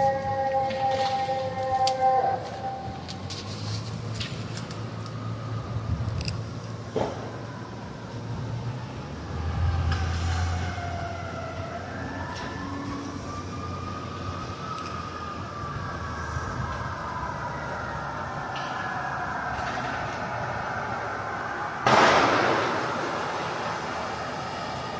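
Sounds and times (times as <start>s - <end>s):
siren wailing: 0.0s - 24.9s.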